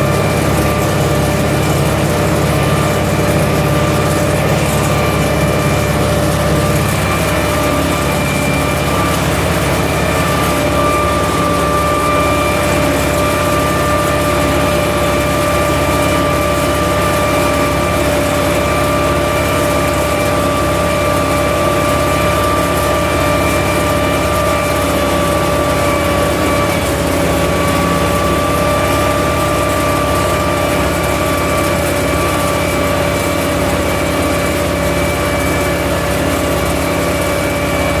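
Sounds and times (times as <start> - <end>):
steady whine: 0.0 - 38.0
tractor diesel engine under load: 0.0 - 38.0.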